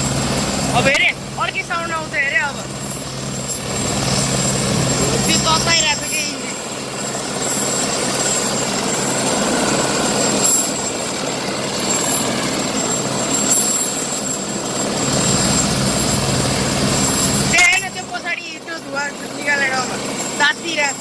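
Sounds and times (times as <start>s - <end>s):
helicopter engine and rotors: 0.0s - 21.0s
steady high whine: 0.0s - 21.0s.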